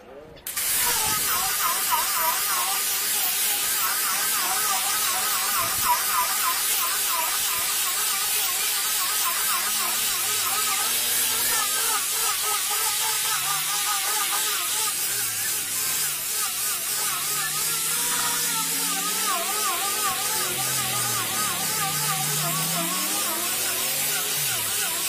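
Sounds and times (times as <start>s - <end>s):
angle grinder motor whine: 0.5s - 25.0s
polishing pad hissing on wood: 0.5s - 25.0s.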